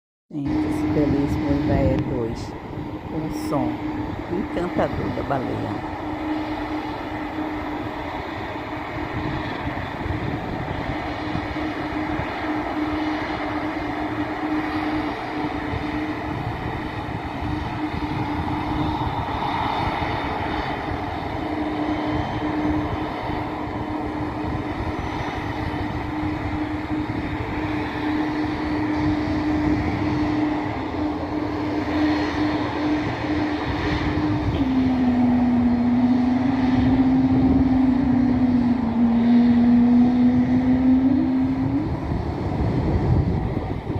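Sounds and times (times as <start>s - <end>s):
jet engine moaning hum: 0.3s - 43.9s.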